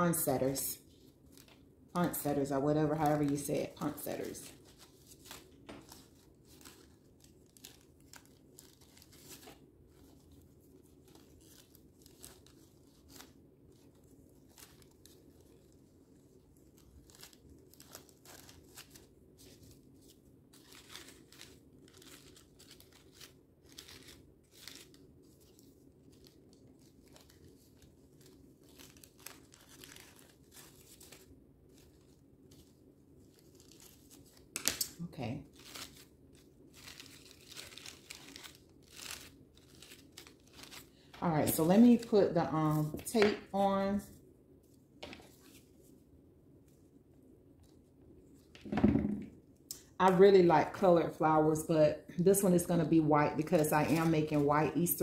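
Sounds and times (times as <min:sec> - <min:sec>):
low room hum: 0:00.0 - 0:55.0
paper crinkling and rustling: 0:00.4 - 0:43.6, 0:44.2 - 0:46.0, 0:47.6 - 0:48.8, 0:53.3 - 0:55.0.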